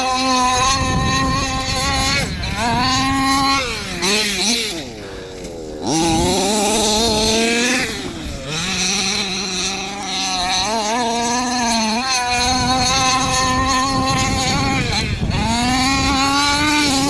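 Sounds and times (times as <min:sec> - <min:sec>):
rc buggy engine howling: 0:00.0 - 0:17.0.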